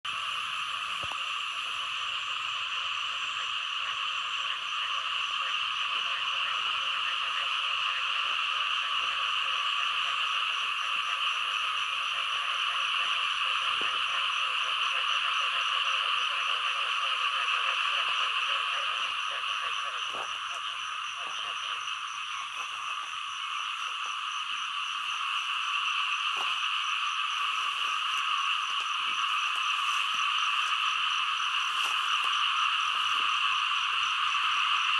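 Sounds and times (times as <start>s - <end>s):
chorus of frogs calling: 0.1s - 34.9s.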